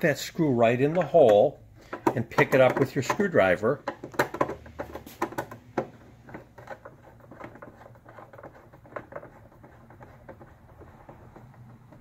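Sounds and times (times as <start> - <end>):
screwdriver clicking and scraping: 0.8 - 12.0.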